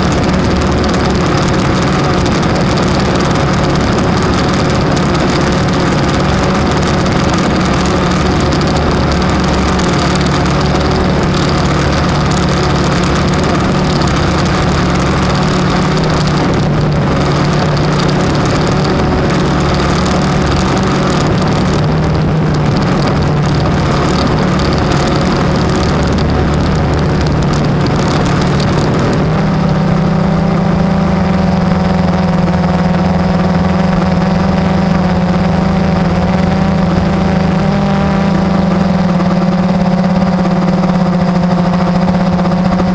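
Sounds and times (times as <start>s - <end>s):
drone propellers whirring: 0.0s - 42.9s.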